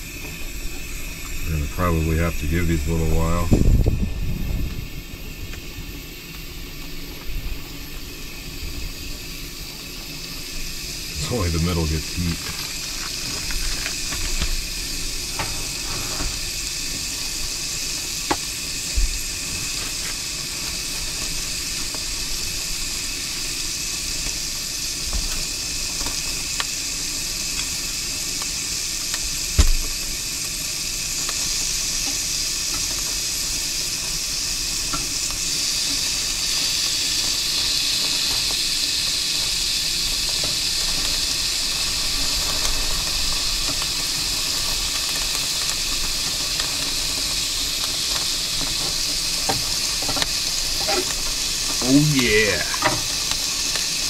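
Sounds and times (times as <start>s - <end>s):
bacon sizzling: 0.0s - 54.0s.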